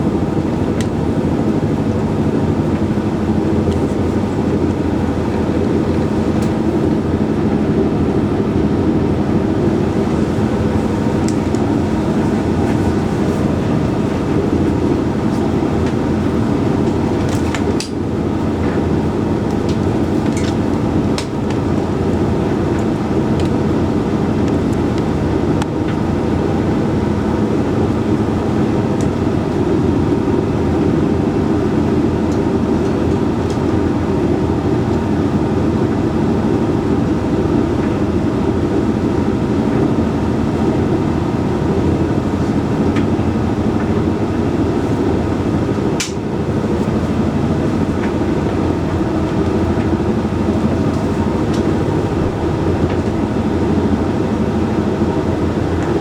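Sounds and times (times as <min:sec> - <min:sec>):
tumble dryer running: 0:00.0 - 0:56.0.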